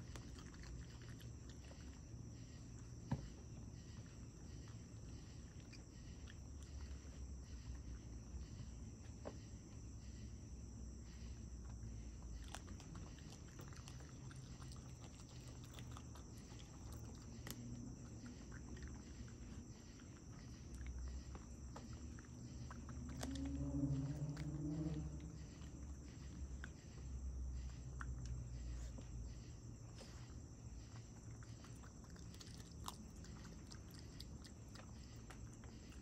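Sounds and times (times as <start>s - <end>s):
raccoon eating clicks and smacking: 0.0s - 8.7s, 11.6s - 36.0s
crickets chirping: 0.0s - 36.0s.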